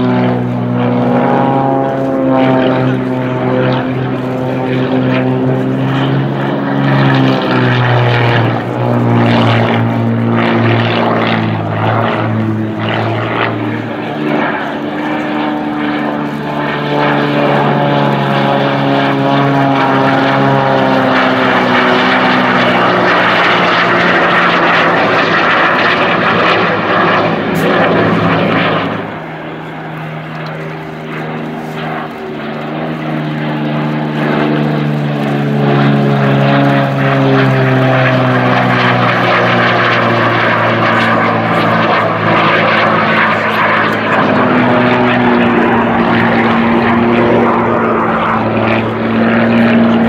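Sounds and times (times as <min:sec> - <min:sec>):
broad rushing noise: 0:00.0 - 0:50.0
propeller plane engine droning: 0:00.0 - 0:50.0.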